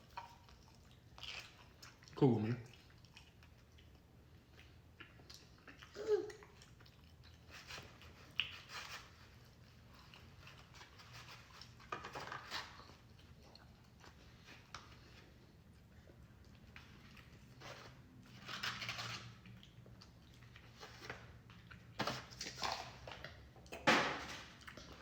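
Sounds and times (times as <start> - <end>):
chewing: 0.0 - 23.9, 24.5 - 25.0.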